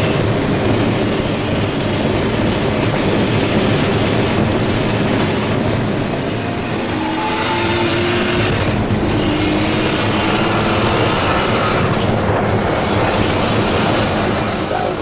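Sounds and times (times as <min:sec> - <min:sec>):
car engine running hard: 0:00.0 - 0:15.0
wind and road noise: 0:00.0 - 0:15.0.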